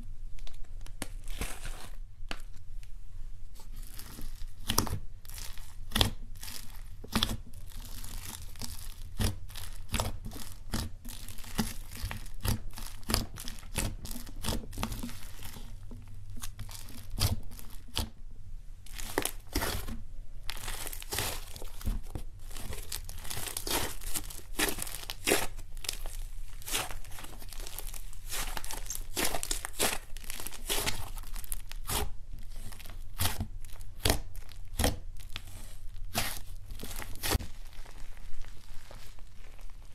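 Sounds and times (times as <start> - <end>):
slime crackling and popping: 3.8 - 18.2, 18.8 - 39.9.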